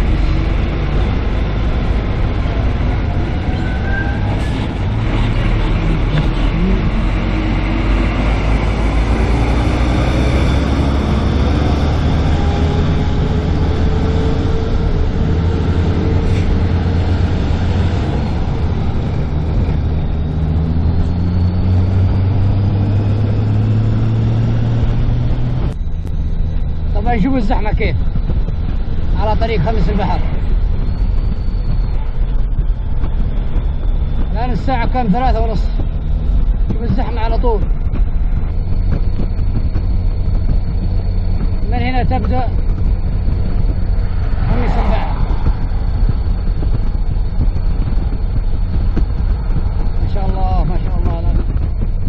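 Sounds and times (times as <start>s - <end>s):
car engine rumble: 0.0s - 52.0s.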